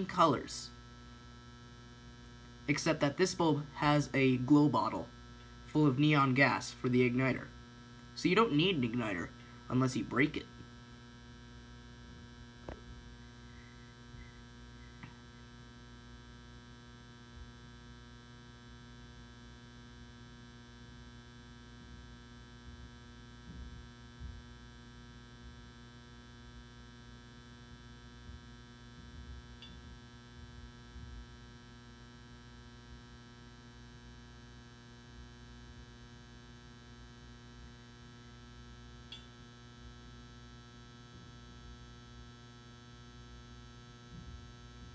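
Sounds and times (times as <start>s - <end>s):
electrical ballast hum: 0.0s - 44.9s.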